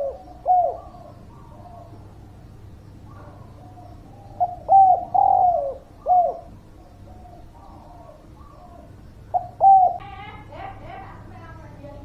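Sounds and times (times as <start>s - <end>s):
dove cooing: 0.0s - 2.3s, 3.0s - 10.8s
faint coos of other doves: 0.0s - 10.3s.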